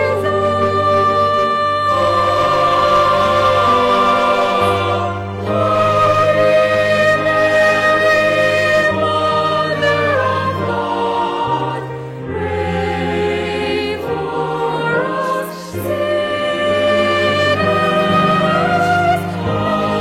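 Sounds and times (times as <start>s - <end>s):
choir singing sacred chords: 0.0s - 20.0s.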